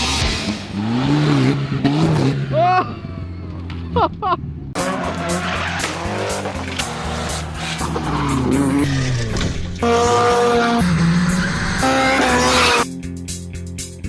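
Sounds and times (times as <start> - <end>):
car engine revving: 0.0 - 12.9
tyres spinning and skidding: 0.3 - 12.9.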